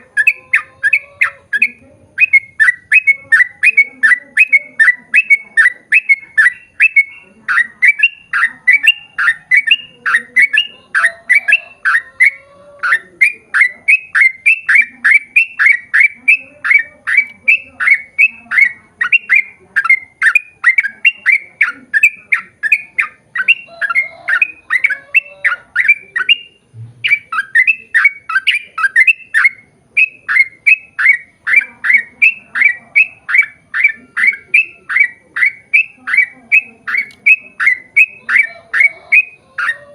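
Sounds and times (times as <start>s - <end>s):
bird singing rapid notes: 0.0s - 39.9s.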